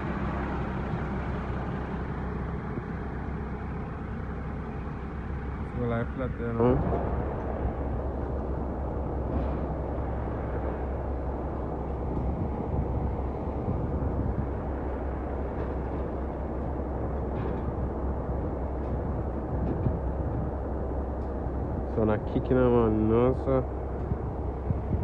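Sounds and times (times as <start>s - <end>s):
diesel truck engine rumbling: 0.0s - 25.0s.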